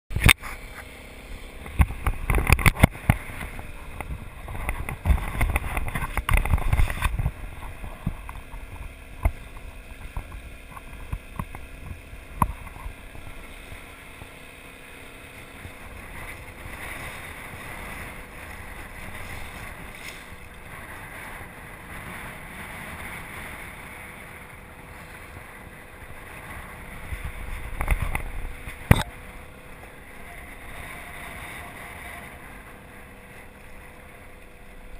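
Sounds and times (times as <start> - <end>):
water splashing against dinghy hull: 0.1 - 34.9
wind buffeting microphone: 0.1 - 34.9.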